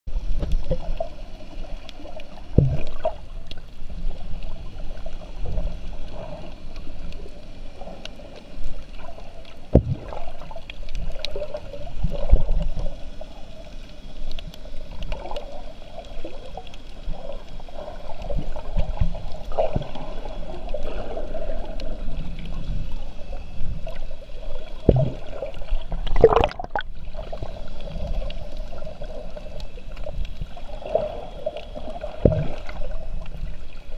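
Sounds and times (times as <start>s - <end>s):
low underwater rumble: 0.1s - 33.9s
muffled water sloshing underwater: 0.1s - 33.9s.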